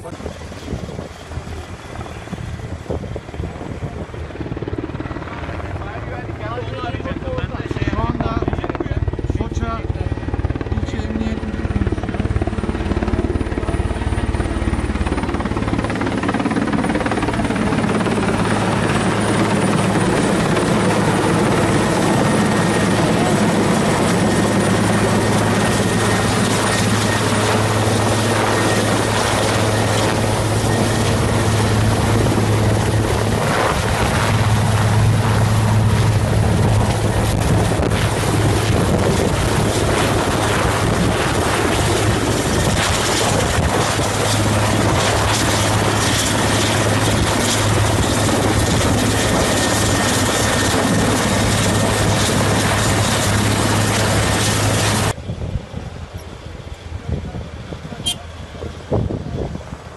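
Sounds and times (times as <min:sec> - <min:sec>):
helicopter rotor and engines: 0:00.0 - 0:59.9.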